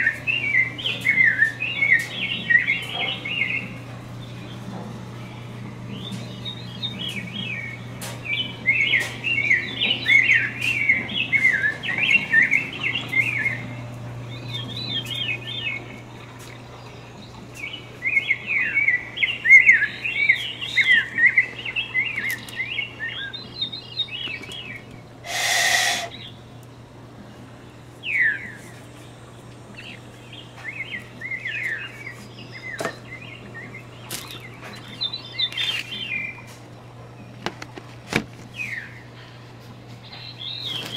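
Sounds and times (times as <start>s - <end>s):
bird chirping and twittering: 0.0s - 26.5s, 27.7s - 37.4s, 38.5s - 39.3s, 40.0s - 40.9s.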